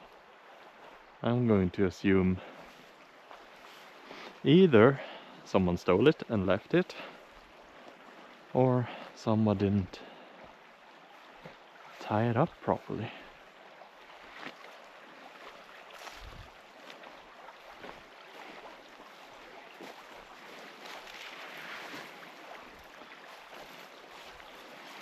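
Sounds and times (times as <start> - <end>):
small river flowing: 0.0 - 25.0.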